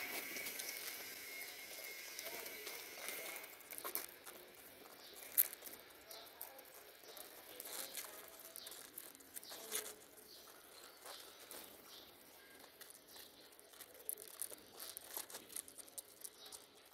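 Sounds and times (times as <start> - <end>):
pigeons pecking at feed: 0.0 - 16.9.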